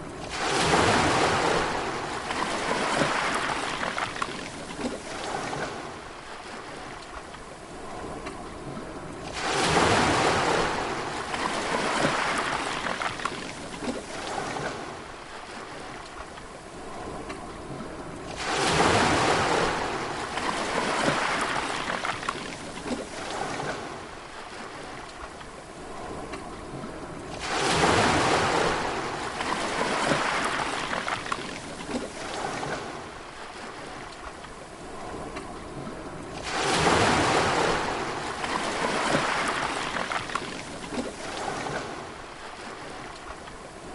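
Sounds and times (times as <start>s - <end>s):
sea waves breaking on shore: 0.0s - 43.9s.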